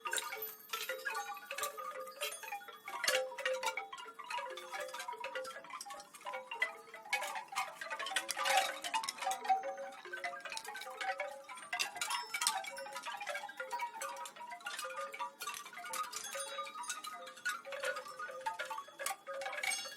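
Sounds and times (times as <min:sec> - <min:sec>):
wind chimes jangling: 0:00.0 - 0:19.9.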